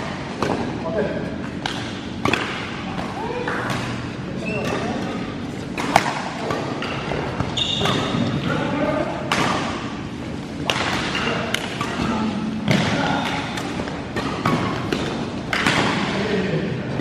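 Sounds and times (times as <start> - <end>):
rackets hitting shuttlecock: 1.4 - 16.2.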